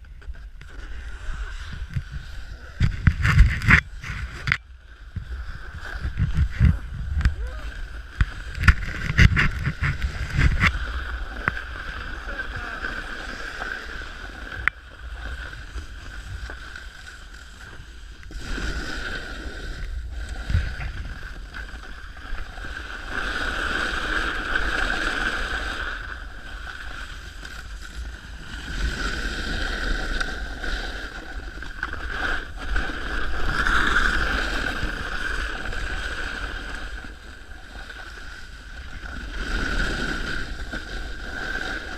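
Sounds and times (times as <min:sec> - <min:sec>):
snowboard scraping icy snow: 0:00.0 - 0:41.9.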